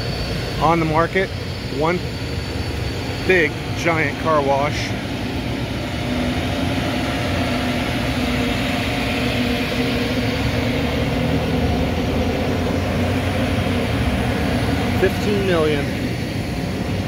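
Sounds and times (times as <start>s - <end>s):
car wash machinery hum: 0.0s - 17.0s.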